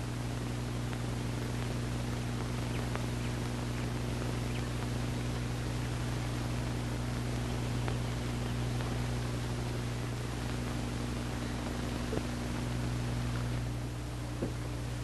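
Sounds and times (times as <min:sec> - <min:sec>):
electrical hum: 0:00.0 - 0:15.0
even hiss: 0:00.0 - 0:15.0
faint ticks: 0:00.3 - 0:13.7.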